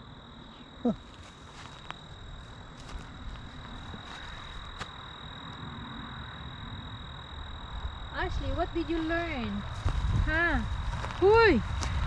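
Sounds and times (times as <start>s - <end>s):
crickets droning: 0.0s - 12.0s
faint outdoor background noise: 0.0s - 12.0s.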